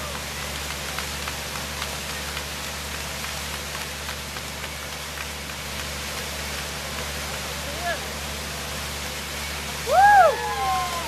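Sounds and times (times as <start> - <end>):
boat engine drone: 0.0 - 11.0
rushing water and wind: 0.1 - 11.0.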